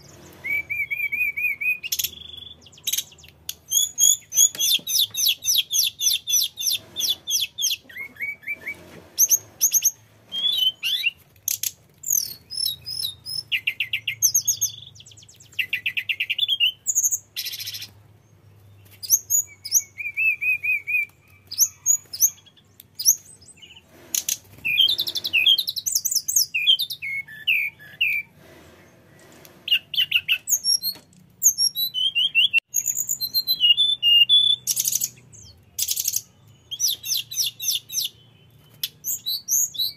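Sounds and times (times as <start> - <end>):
bird singing trills and whistles: 0.0 - 28.4, 29.7 - 39.9.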